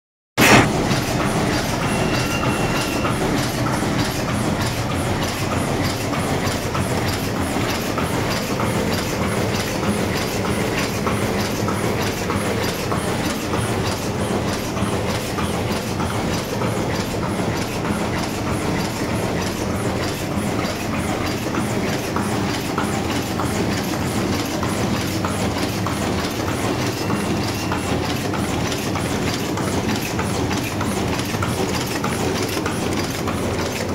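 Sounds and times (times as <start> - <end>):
paper cup machine clattering: 0.4 - 33.9.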